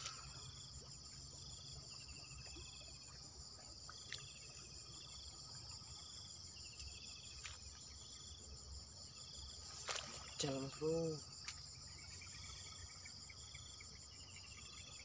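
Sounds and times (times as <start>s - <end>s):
insect chorus buzzing: 0.0s - 15.0s.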